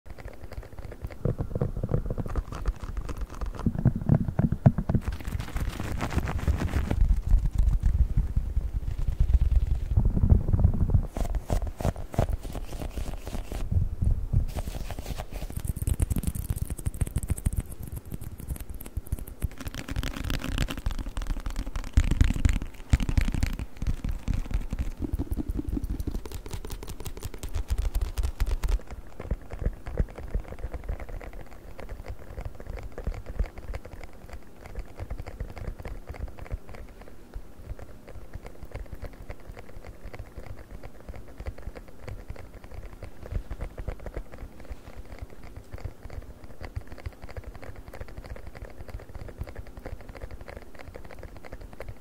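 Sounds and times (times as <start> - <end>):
rapid tapping on objects: 0.1 - 9.9, 10.5 - 13.7, 14.5 - 52.0.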